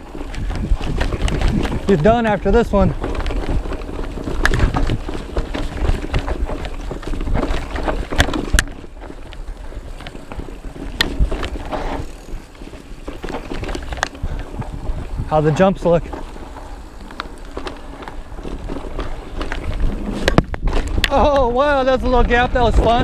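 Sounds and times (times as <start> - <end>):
bike rattling: 0.0 - 23.0
tyres rumbling over dirt: 0.0 - 23.0
wind on microphone: 0.0 - 23.0.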